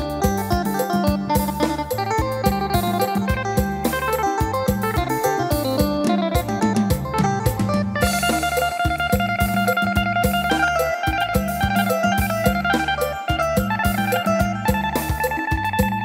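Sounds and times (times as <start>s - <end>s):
bass line: 0.0s - 16.0s
electronic keyboard melody: 0.0s - 16.0s
steady drum beat: 0.0s - 16.0s.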